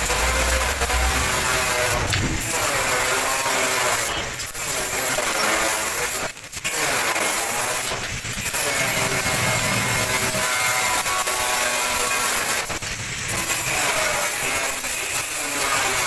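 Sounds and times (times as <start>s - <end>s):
welding arc crackling and hissing: 0.0s - 16.0s.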